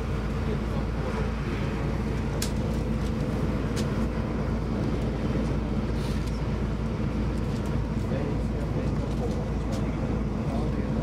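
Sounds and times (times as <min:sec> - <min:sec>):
ferry engine drone: 0:00.0 - 0:11.0
rush of moving hull: 0:00.0 - 0:11.0.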